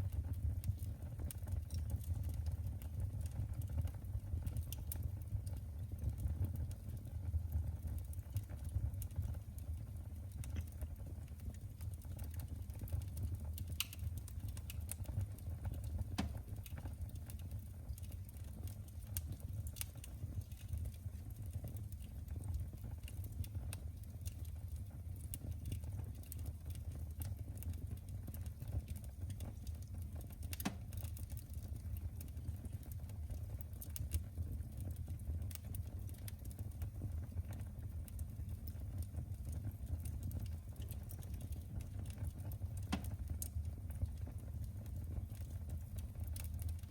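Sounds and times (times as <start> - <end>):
fire low rumble: 0.0 - 46.9
wood fire crackling and popping: 0.0 - 46.9.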